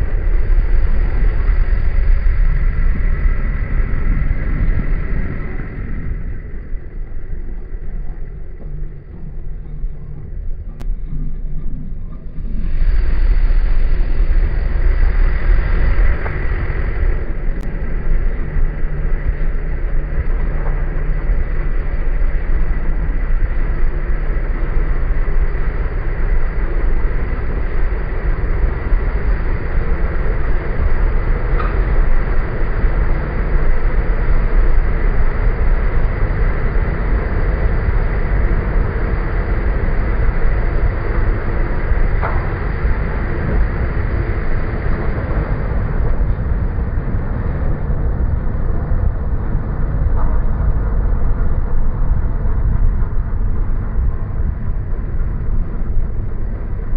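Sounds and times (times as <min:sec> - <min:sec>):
car engine rumble: 0:00.0 - 0:56.9.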